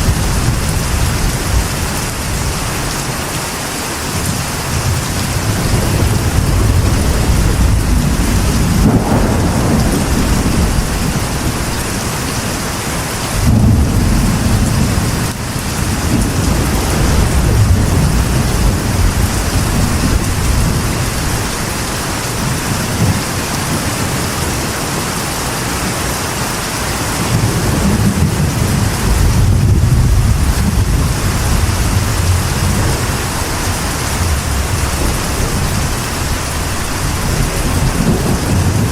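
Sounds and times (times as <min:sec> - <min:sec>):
rolling thunder: 0:00.0 - 0:03.0, 0:04.2 - 0:24.8, 0:27.0 - 0:38.9
heavy rain on a metal roof: 0:00.0 - 0:38.9.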